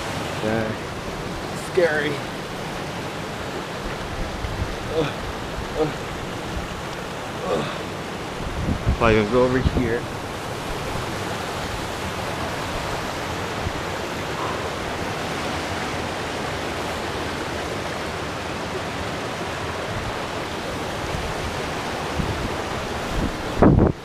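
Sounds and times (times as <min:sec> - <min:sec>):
water cascading over rocks: 0:00.0 - 0:24.0.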